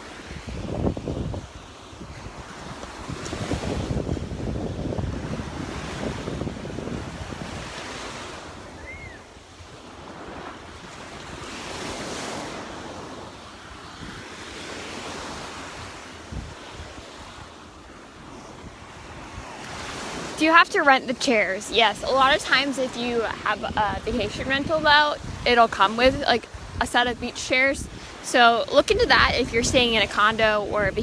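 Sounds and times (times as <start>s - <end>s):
surf breaking on sand: 0.0s - 31.0s
wind buffeting microphone: 0.0s - 31.0s.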